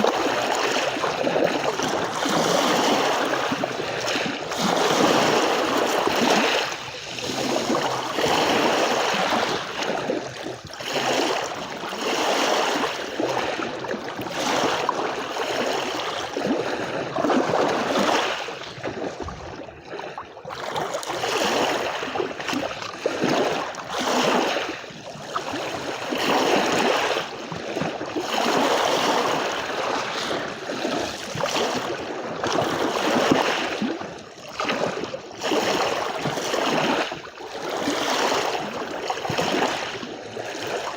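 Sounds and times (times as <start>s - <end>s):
small waves washing on beach: 0.0s - 40.9s.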